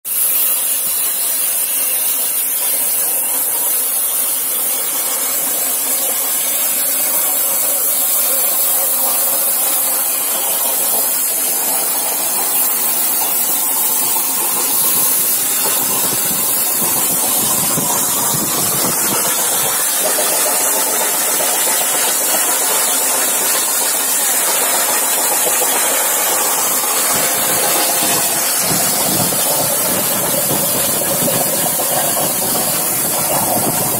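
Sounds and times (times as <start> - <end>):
plasma torch hissing: 0.1 - 33.9.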